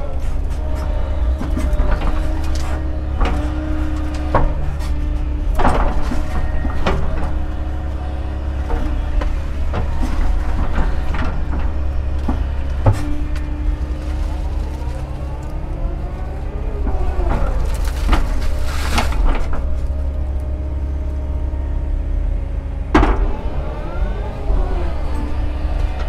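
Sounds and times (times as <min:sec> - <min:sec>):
excavator diesel engine: 0:00.0 - 0:26.0
hydraulic whine: 0:00.0 - 0:26.0.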